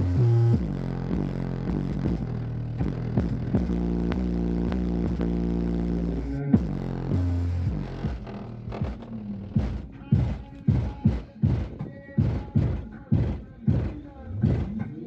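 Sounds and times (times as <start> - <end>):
distorted bass-heavy music: 0.0 - 15.0.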